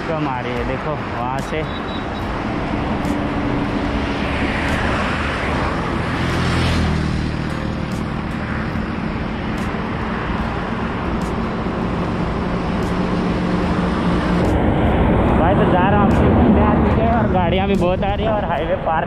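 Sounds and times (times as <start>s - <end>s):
heavy trucks droning: 0.0s - 19.0s
highway traffic rushing: 0.0s - 19.0s.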